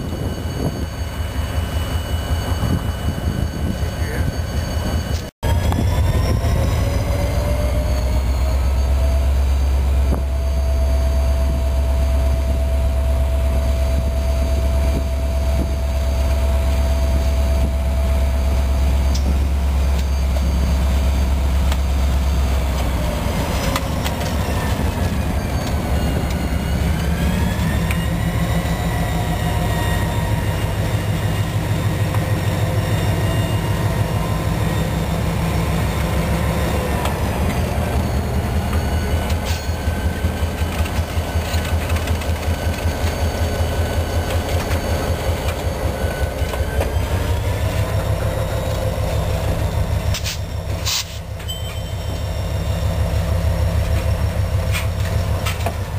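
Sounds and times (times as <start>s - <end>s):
locomotive engine drone: 0.0s - 55.9s
locomotive whine: 0.0s - 55.9s.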